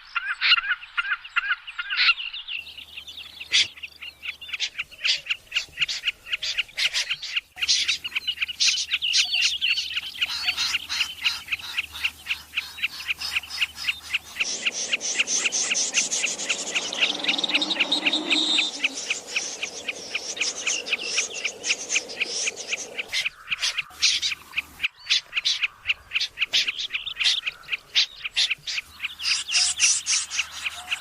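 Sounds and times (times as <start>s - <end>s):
recorded bird chirps: 0.0s - 31.0s.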